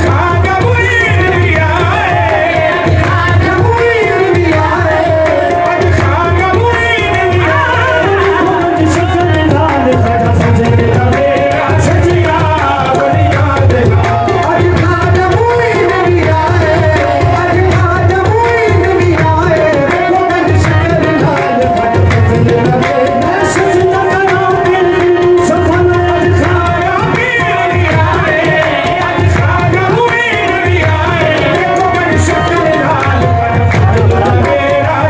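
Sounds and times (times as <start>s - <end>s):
harmonium notes: 0.0s - 35.0s
tabla rhythm: 0.0s - 35.0s.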